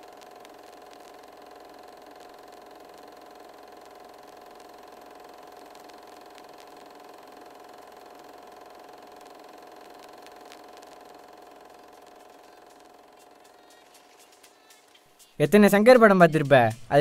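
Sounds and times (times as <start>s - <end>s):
faint clicks and crackles: 0.0s - 14.4s
steady machine hum: 0.0s - 14.9s.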